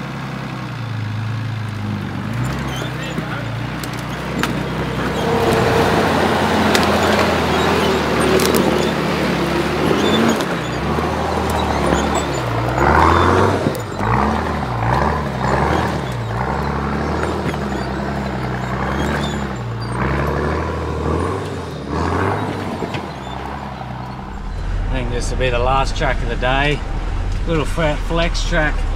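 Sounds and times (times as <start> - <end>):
engine revving under load: 0.0 - 28.9.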